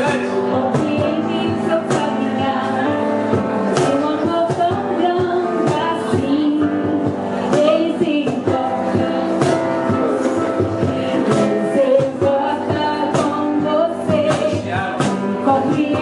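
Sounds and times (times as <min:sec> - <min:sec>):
light steady beat: 0:00.0 - 0:16.0
person singing: 0:00.0 - 0:16.0.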